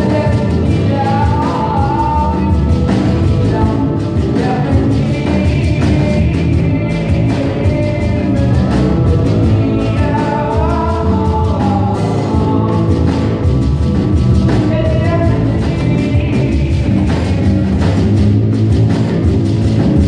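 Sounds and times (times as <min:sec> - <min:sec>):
person singing: 0:00.0 - 0:18.3
drum kit: 0:00.0 - 0:20.0
electric bass: 0:00.0 - 0:20.0
keyboards playing: 0:00.0 - 0:20.0.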